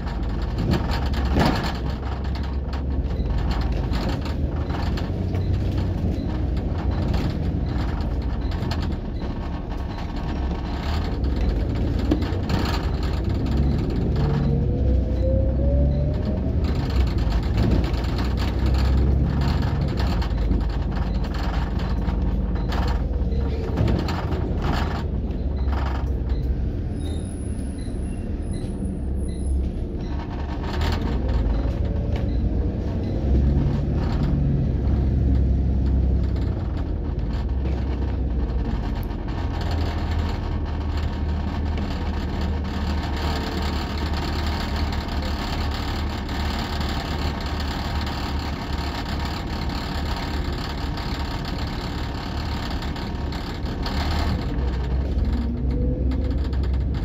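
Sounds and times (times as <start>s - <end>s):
bus body rattling and creaking: 0.0s - 57.0s
bus engine and road rumble: 0.0s - 57.0s.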